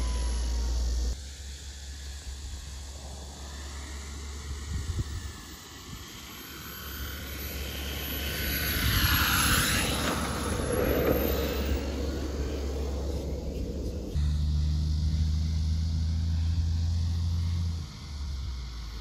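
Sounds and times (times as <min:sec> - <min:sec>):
model airplane motor and propeller: 0:00.0 - 0:19.0.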